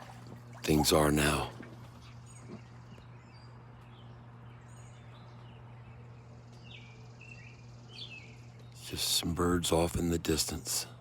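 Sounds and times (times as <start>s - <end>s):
distant songbirds chirping: 0.0s - 10.0s
low steady hum: 0.0s - 11.0s.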